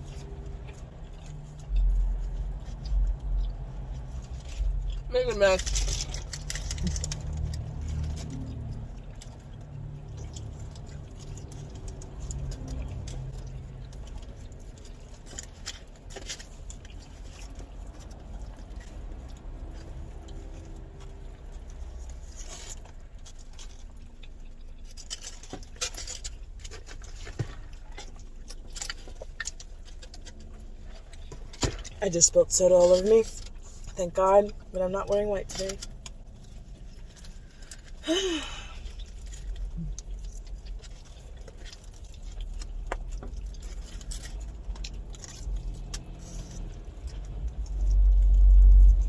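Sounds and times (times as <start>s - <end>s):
people chewing: 0.0s - 32.0s, 35.4s - 49.0s
low steady rumble: 0.0s - 49.0s.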